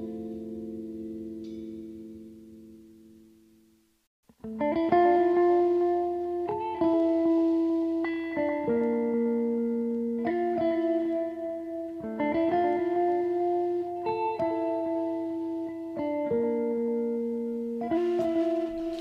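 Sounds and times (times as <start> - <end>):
plucked guitar-like music: 0.0 - 3.7, 4.3 - 19.0.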